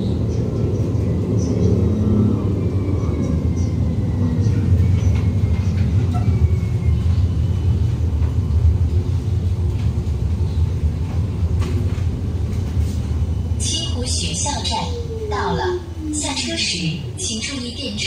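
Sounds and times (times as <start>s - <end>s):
tram low rumble: 0.0s - 18.0s.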